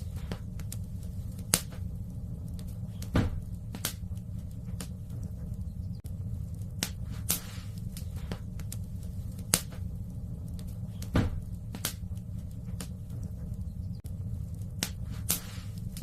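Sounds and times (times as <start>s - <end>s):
fire crackling pops: 0.0s - 16.0s
wood fire rumbling: 0.0s - 16.0s.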